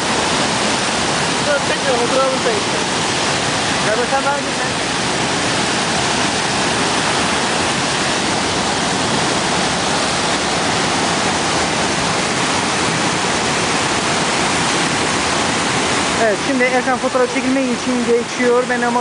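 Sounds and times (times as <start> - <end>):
waterfall crashing: 0.0 - 19.0.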